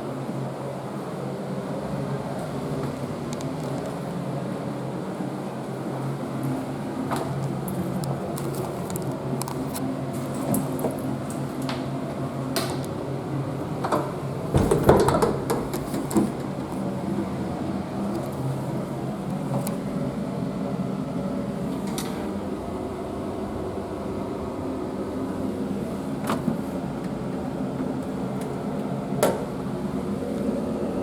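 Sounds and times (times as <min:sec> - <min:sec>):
ventilation hum: 0:00.0 - 0:31.0.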